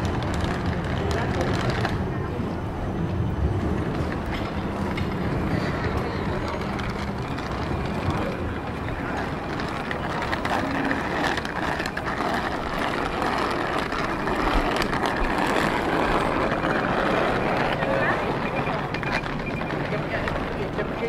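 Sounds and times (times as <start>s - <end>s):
city street noise: 0.0s - 21.0s.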